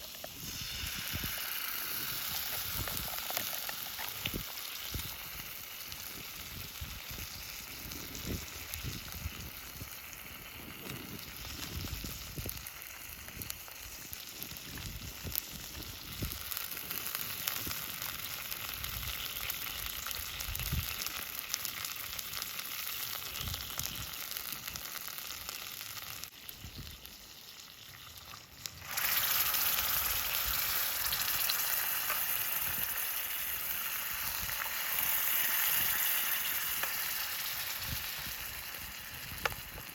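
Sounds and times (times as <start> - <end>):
campfire crackles: 0.0 - 39.9
food sizzling in a frying pan: 0.0 - 39.9.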